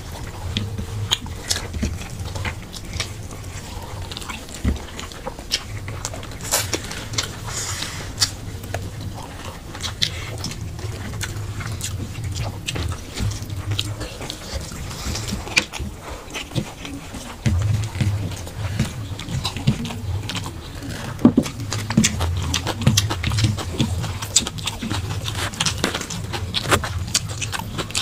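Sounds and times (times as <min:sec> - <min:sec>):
low steady hum: 0:00.0 - 0:28.0
people chewing and lip smacking: 0:00.0 - 0:28.0.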